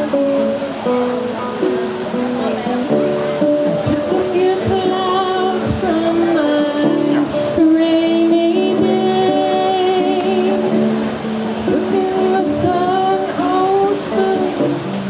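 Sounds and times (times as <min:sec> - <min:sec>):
slow instrumental song with guitar: 0:00.0 - 0:15.0.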